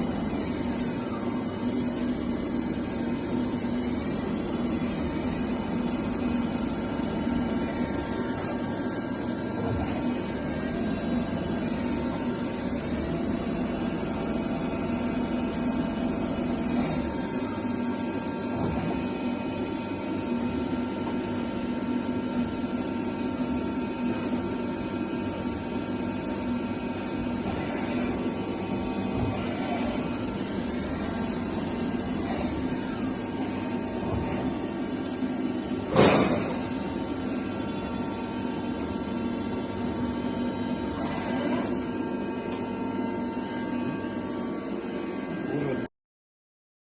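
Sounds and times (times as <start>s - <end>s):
lathe machine hum: 0.0s - 45.9s.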